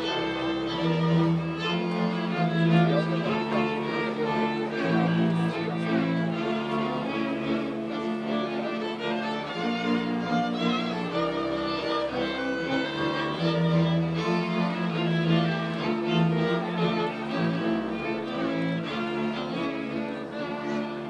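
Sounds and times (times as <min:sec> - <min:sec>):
bowed bass line: 0:00.0 - 0:21.0
fiddles playing a tune: 0:00.0 - 0:21.0.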